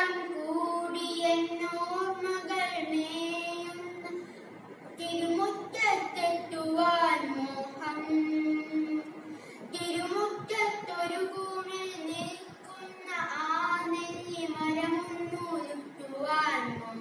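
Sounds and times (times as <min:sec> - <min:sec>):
boy singing: 0:00.0 - 0:04.2, 0:05.0 - 0:09.1, 0:09.7 - 0:17.0.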